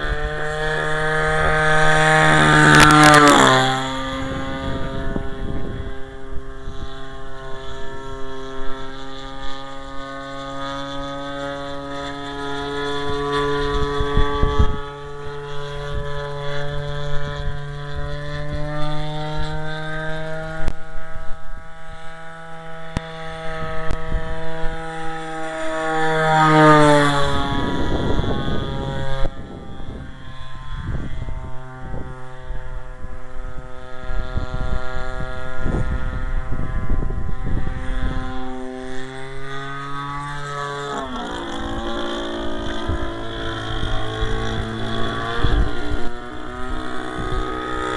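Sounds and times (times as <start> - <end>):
model airplane engine flying past: 0.0 - 47.9
wind buffeting microphone: 0.0 - 47.9.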